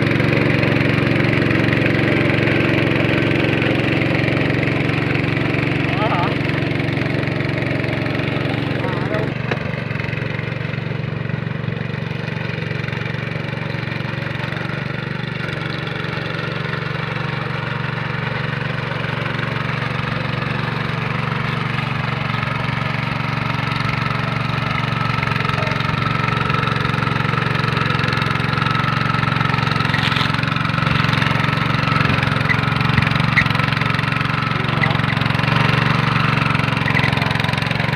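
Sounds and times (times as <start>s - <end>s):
rotavator engine running: 0.0s - 37.9s.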